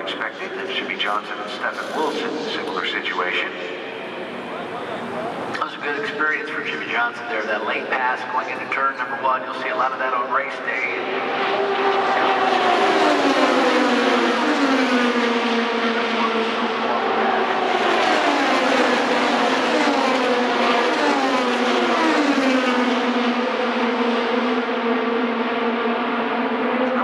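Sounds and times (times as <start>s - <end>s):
race cars passing at speed: 0.0s - 27.0s.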